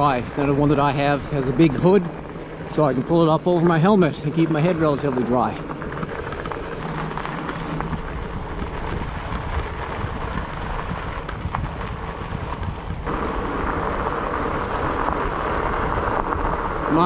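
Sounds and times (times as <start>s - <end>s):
bike tyres rumbling on trail: 0.0s - 17.0s
wind buffeting microphone: 0.0s - 17.0s.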